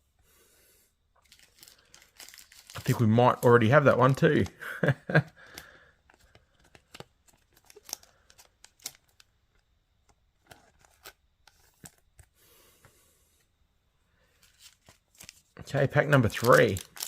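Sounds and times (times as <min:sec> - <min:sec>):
trading cards and foil packs rustling: 0:01.2 - 0:12.4, 0:14.2 - 0:17.0.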